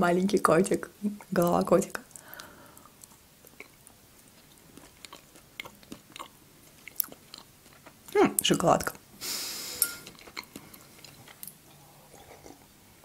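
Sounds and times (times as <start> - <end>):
chewing chocolate: 1.0 - 9.0, 10.0 - 13.0.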